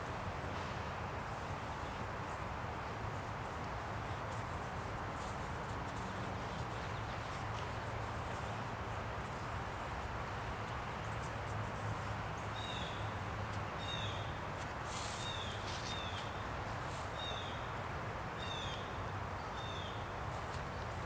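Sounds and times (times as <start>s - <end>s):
outdoor hiss: 0.0s - 21.0s.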